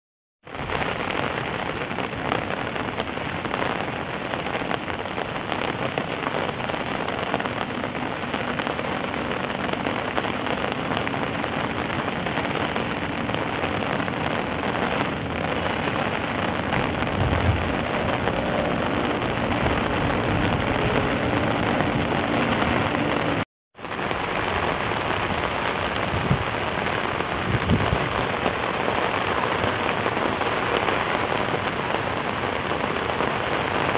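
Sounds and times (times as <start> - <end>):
rain on wet pavement: 0.4 - 33.9.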